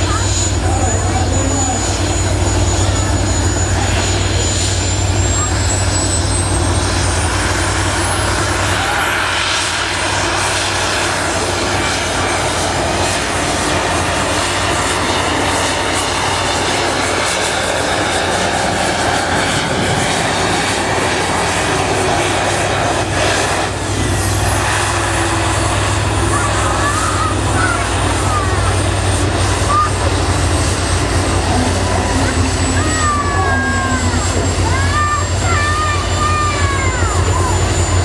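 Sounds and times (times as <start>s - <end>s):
high engine whine: 0.0s - 38.0s
tractor engine running hard: 0.0s - 38.0s.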